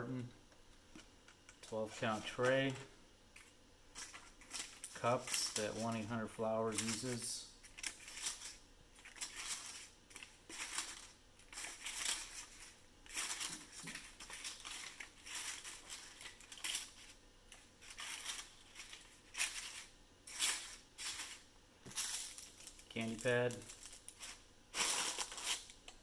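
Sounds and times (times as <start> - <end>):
paper candy cups rustling: 1.0 - 26.0.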